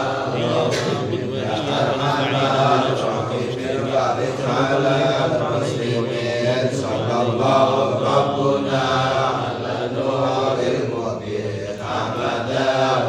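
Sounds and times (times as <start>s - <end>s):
men chanting prayers in unison: 0.0s - 13.0s.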